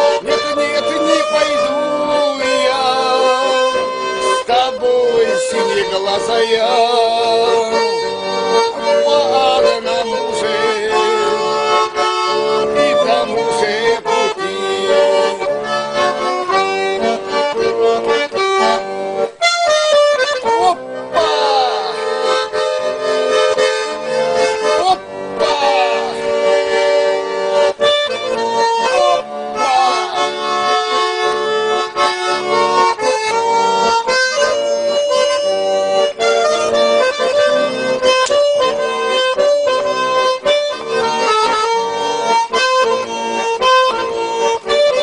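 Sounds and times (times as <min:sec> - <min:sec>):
button accordion playing: 0:00.0 - 0:45.0.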